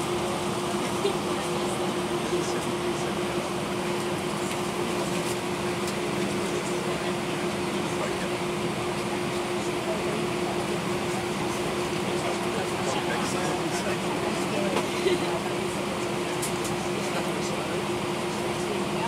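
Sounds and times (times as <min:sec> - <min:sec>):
airliner cabin air rush: 0:00.0 - 0:19.0.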